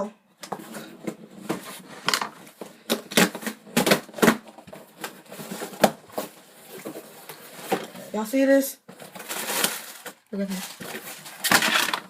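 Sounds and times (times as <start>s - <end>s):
packaging crinkling and rustling: 0.6s - 8.1s, 8.9s - 12.0s.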